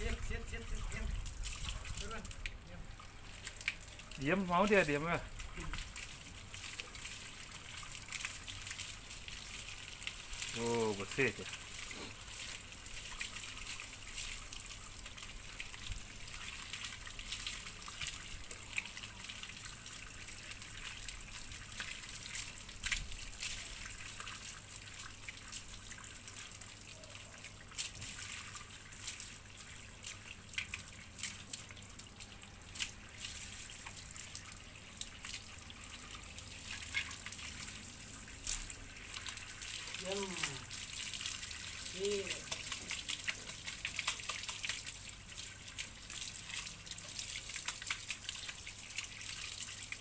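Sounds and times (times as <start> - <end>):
hose water splashing: 0.0 - 50.0
water dripping: 0.0 - 50.0.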